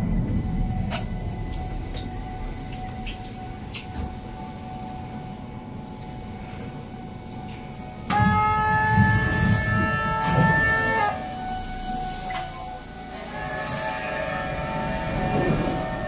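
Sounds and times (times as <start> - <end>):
train doors sliding open: 0.0 - 4.7, 6.0 - 16.0.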